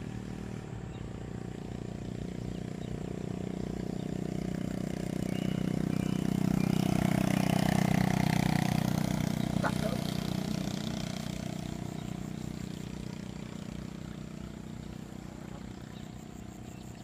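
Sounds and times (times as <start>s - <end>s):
vehicle engine approaching: 0.0s - 17.0s.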